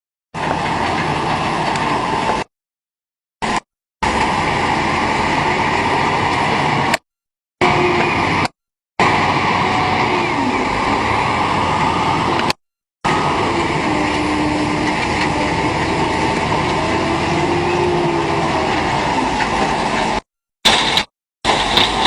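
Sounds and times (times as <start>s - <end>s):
heavy machinery running: 0.4s - 2.5s, 3.4s - 7.0s, 7.6s - 22.0s
wavering engine hum: 0.4s - 2.5s, 3.4s - 7.0s, 7.6s - 22.0s.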